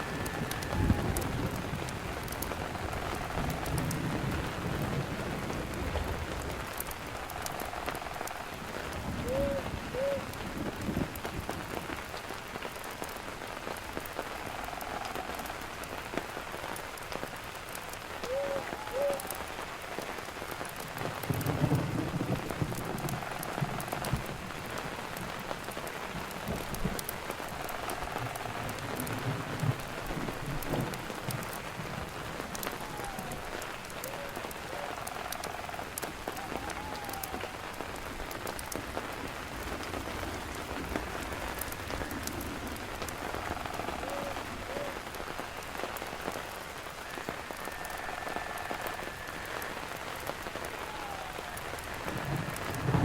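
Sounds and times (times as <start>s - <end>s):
fire crackling: 0.0s - 53.0s
rain on a campfire: 0.0s - 53.0s.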